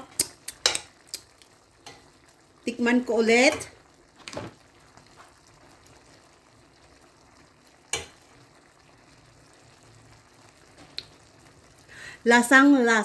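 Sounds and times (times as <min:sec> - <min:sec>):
stew simmering in a pot: 0:00.0 - 0:13.0.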